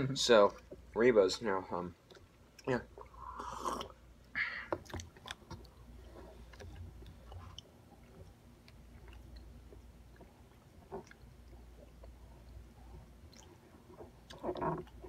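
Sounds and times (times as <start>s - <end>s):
faint chewing: 1.9s - 15.0s.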